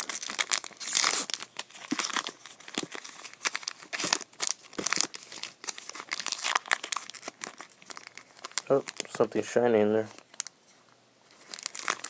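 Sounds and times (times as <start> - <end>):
wrapper crinkling and tearing: 0.0 - 10.6, 11.3 - 12.0.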